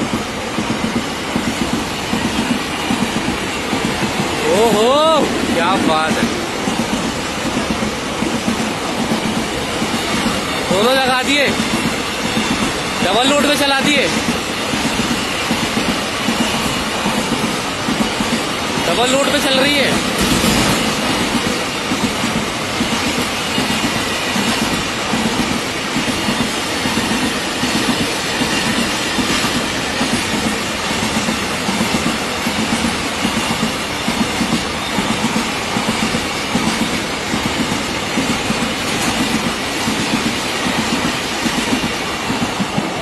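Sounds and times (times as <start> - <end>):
wheels clacking over rail joints: 0.0 - 43.0.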